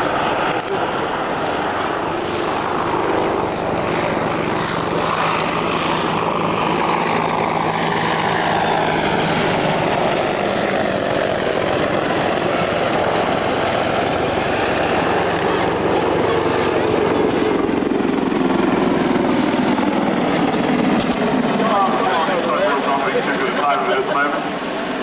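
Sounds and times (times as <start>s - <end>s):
aircraft flying past: 0.0s - 25.0s.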